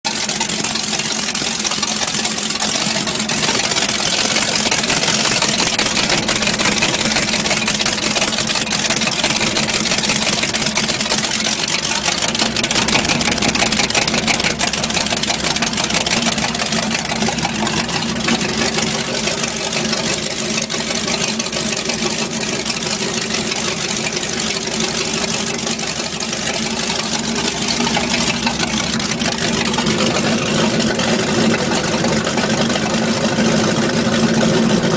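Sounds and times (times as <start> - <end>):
boat engine idling: 0.0 - 34.9
rapid uneven engine popping: 0.0 - 34.9.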